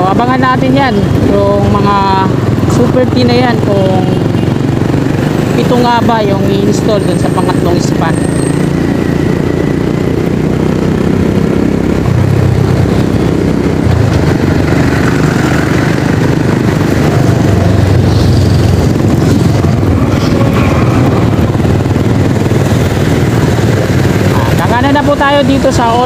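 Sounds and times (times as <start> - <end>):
motorcycle engine rumble: 0.0 - 26.0
road noise: 0.0 - 26.0.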